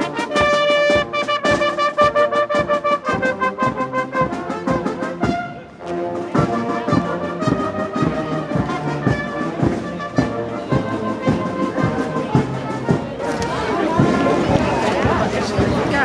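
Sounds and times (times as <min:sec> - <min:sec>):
brass marching band playing: 0:00.0 - 0:16.0.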